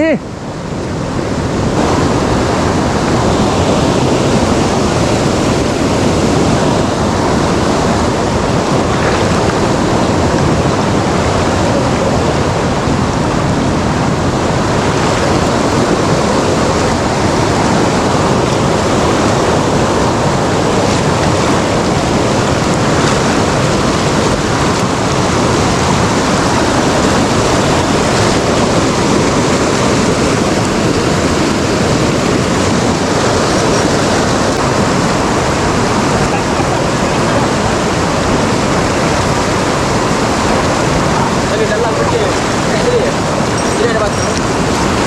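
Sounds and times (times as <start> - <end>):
fast-flowing stream rushing: 0.0 - 45.0.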